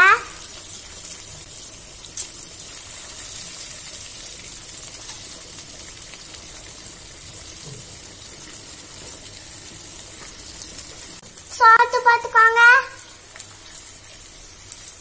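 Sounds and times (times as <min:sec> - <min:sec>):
butter sizzling in a frying pan: 0:00.0 - 0:15.0.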